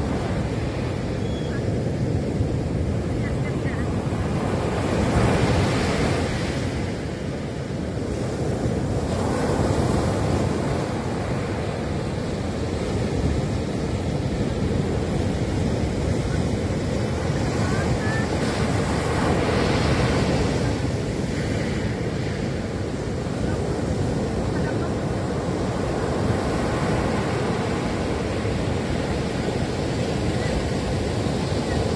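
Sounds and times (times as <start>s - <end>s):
ocean surf breaking on beach: 0.0s - 31.9s.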